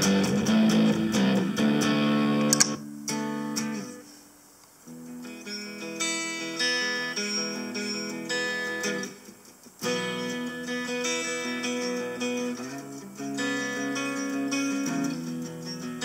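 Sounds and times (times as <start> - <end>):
electric guitar strumming chords: 0.0 - 4.2, 4.8 - 16.0.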